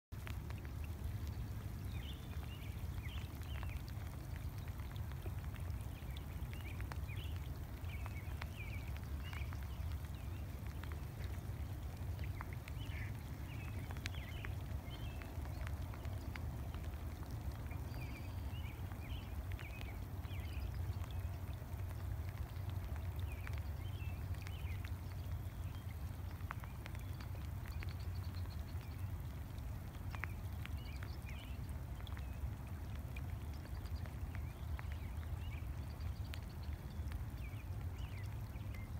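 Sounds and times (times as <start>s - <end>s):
light rain falling on a lake: 0.0s - 38.9s.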